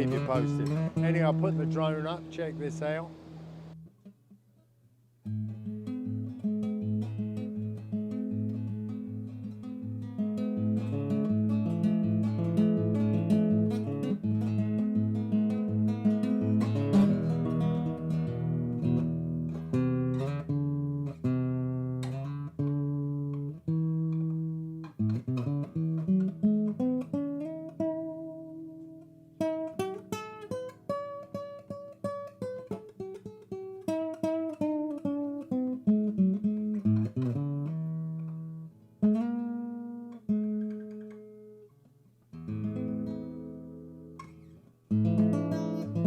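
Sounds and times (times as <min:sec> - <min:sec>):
acoustic guitar playing: 0:00.0 - 0:46.0.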